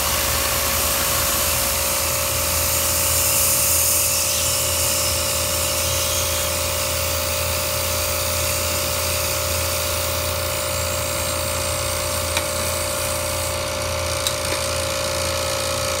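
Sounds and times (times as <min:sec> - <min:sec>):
electric motor humming: 0:00.0 - 0:16.0.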